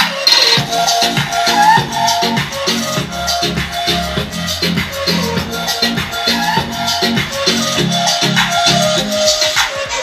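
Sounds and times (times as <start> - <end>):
song through speaker: 0.0 - 10.0.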